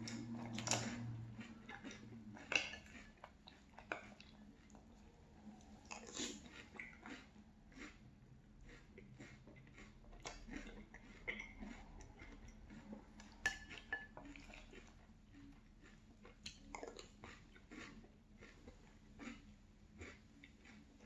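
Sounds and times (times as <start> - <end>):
crunchy cereal chewing: 0.0 - 21.0.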